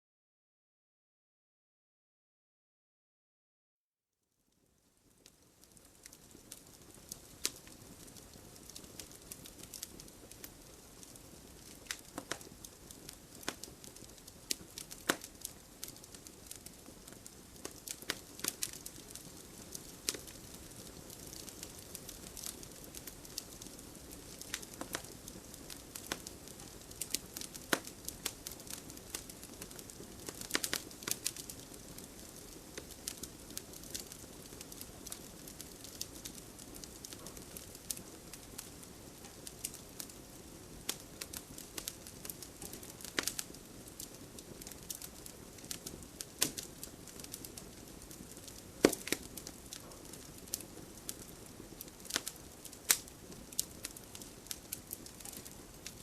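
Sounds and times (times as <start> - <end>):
wood fire crackling: 4.6 - 56.0.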